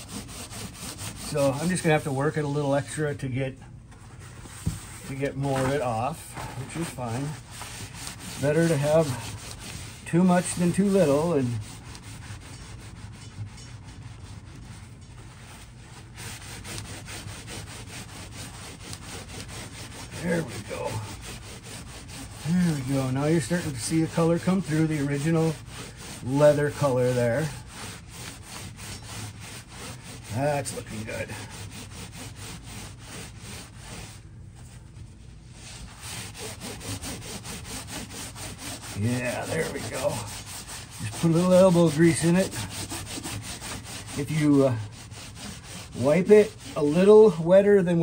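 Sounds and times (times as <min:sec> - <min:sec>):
paper towel rubbing leather: 0:00.0 - 0:03.2, 0:04.1 - 0:48.0.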